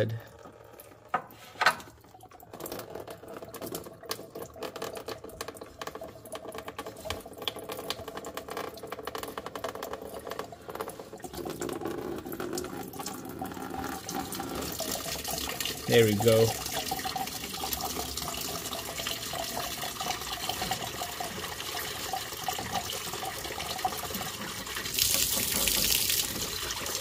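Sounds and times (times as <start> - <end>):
liquid pouring into plastic pan: 0.2 - 27.0.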